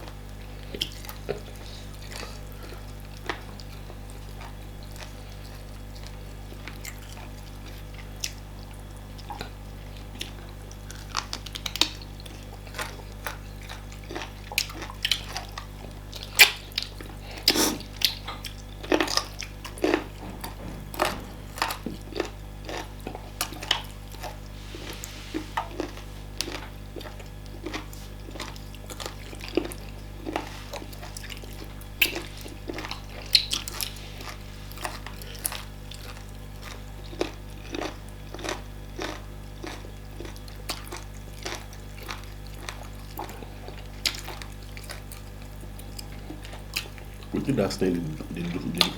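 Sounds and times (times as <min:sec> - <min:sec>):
wet chewing and smacking: 0:00.0 - 0:48.9.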